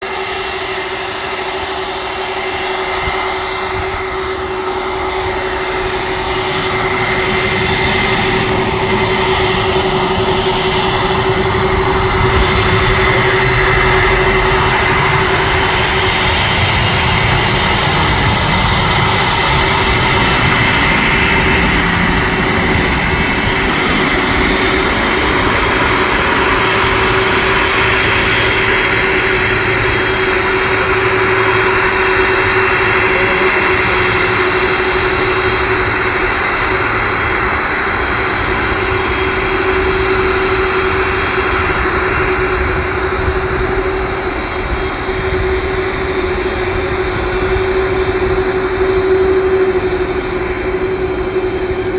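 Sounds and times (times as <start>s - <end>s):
jet engines whining and roaring: 0.0s - 51.9s.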